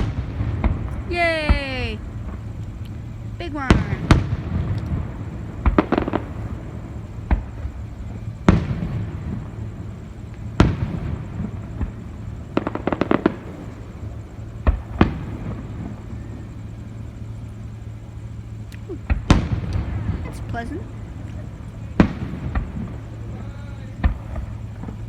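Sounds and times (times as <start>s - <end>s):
firework booms: 0.0s - 2.6s, 3.4s - 16.2s, 18.9s - 25.0s
firework crackling pops: 0.0s - 7.8s, 8.4s - 9.4s, 10.3s - 14.0s, 14.6s - 16.0s, 18.7s - 25.0s.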